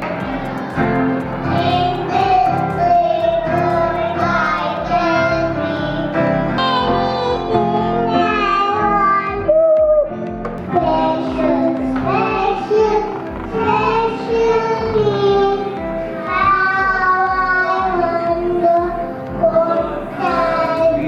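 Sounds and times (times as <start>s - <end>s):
children singing: 0.0s - 9.1s, 10.6s - 21.0s
backing music with steady beat: 0.0s - 21.0s.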